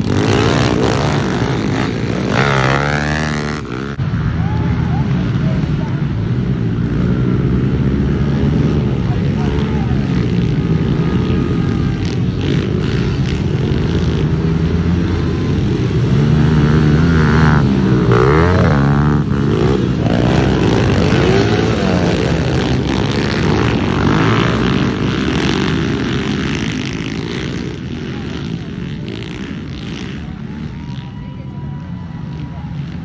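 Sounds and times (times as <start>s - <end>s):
pit bike engines revving: 0.0s - 33.0s.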